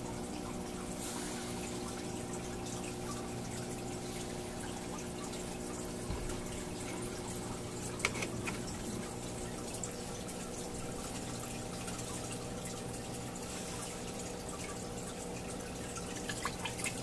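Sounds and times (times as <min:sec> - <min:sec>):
aquarium water trickling: 0:00.0 - 0:17.0.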